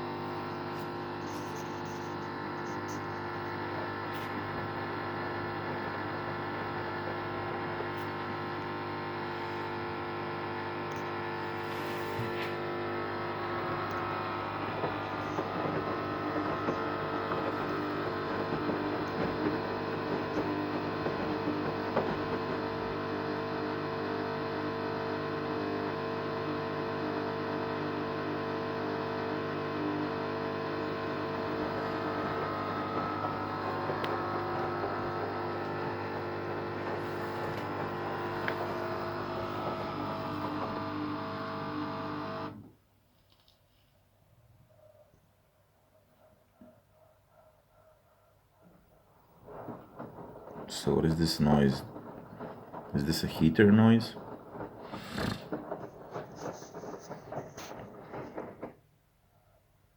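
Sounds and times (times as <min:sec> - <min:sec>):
washer-dryer humming: 0:00.0 - 0:42.8, 0:49.0 - 0:58.7.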